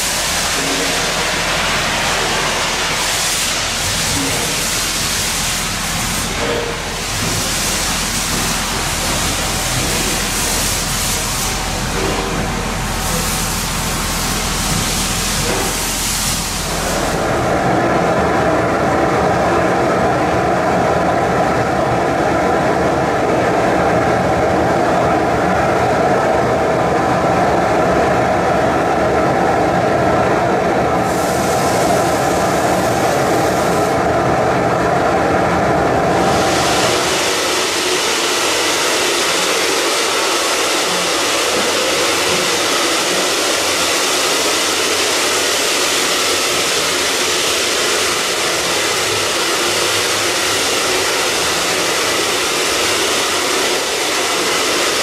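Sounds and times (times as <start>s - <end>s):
steam locomotive hissing steam: 0.0s - 21.8s, 30.8s - 55.0s.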